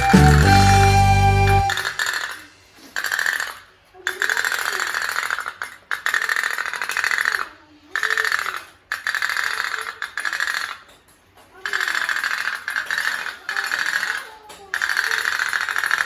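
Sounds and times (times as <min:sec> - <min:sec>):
toy steam boat putt-putting: 0:00.0 - 0:16.0.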